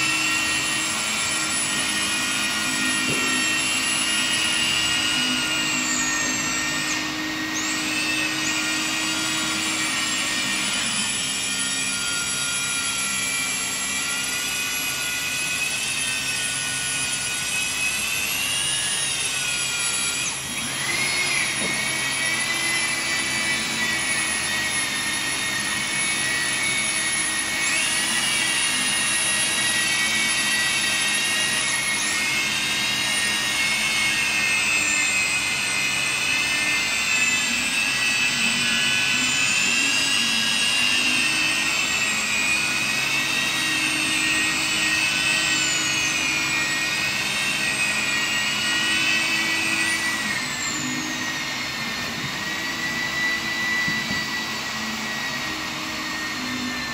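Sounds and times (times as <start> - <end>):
electric polisher motor whine: 0.0 - 56.9.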